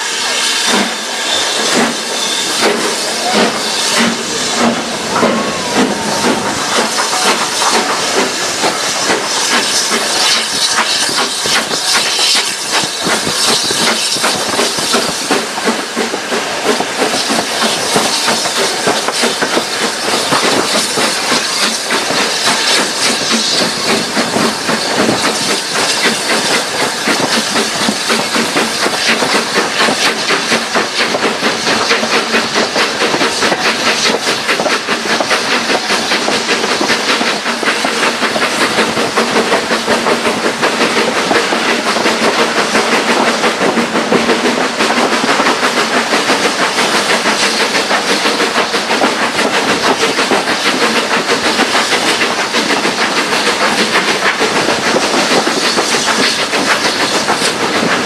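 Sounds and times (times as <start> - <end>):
hiss of steam: 0.0 - 58.0
steam locomotive exhaust beats: 0.0 - 58.0
wheels rattling on track: 0.0 - 58.0.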